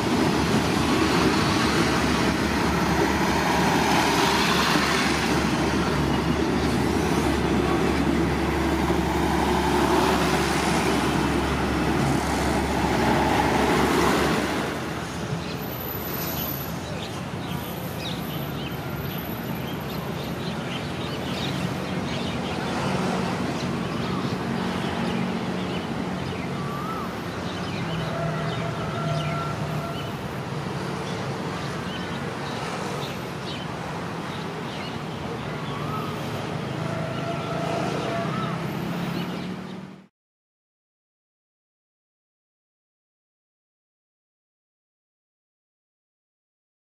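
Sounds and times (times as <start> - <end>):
train coaches rolling past: 0.0 - 40.0.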